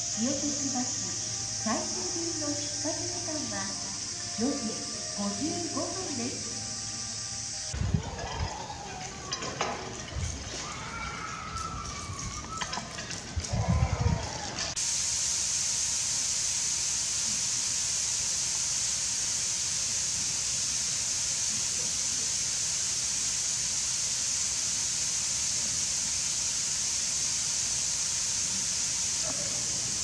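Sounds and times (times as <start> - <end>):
misting nozzles hissing: 0.0 - 30.0.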